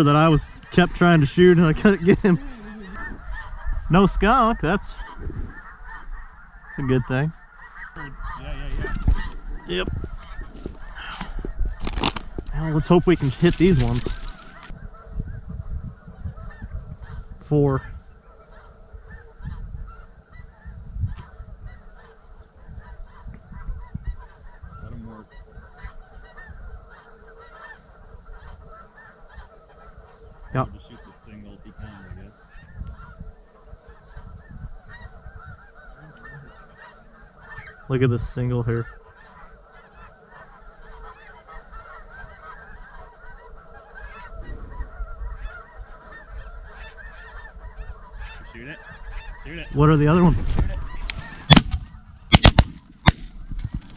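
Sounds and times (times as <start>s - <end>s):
geese honking: 0.0s - 53.9s.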